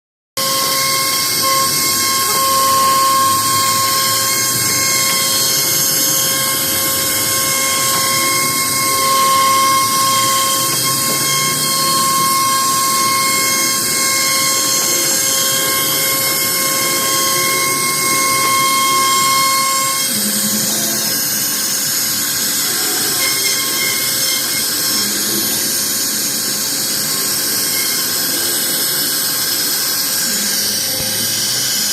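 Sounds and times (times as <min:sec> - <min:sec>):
router spindle whining: 0:00.4 - 0:31.9.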